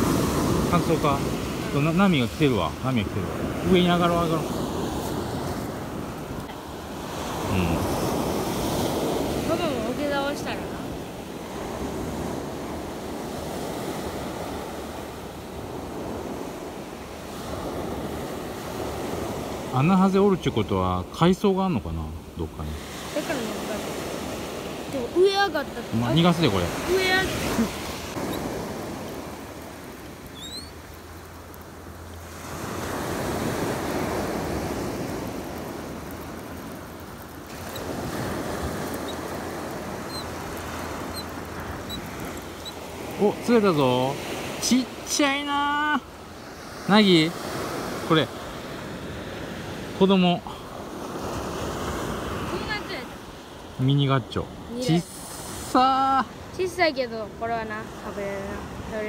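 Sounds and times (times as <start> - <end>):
surf washing up pebble beach: 0.0 - 59.0.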